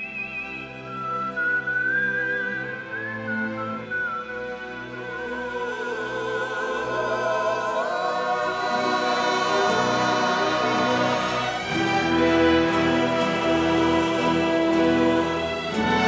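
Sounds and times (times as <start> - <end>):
orchestral western film music: 0.0 - 16.0.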